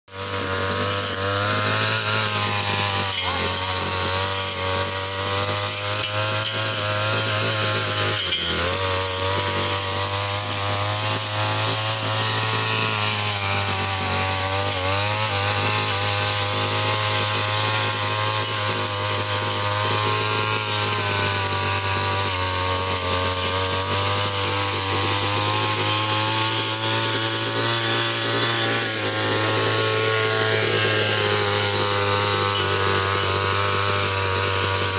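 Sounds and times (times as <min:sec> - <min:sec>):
brush cutter engine cutting grass: 0:00.1 - 0:34.9.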